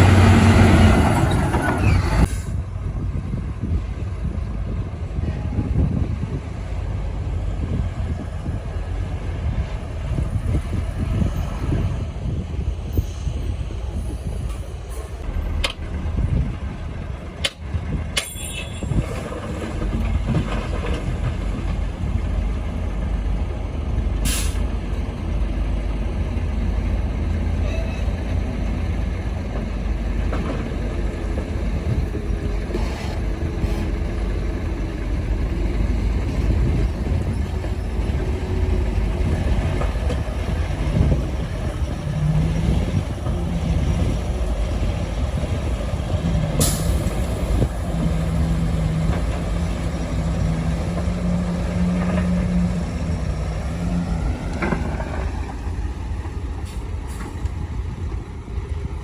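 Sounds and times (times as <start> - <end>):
heavy diesel machinery rumbling: 0.0 - 59.0.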